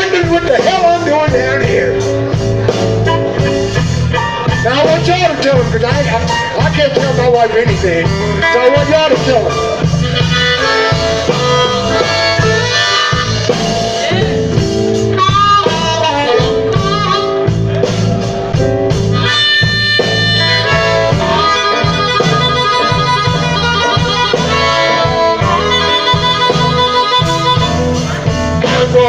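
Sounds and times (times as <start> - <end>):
blues band playing live: 0.0 - 29.0
harmonica bending notes: 0.0 - 29.0
steady bass line: 0.0 - 29.0.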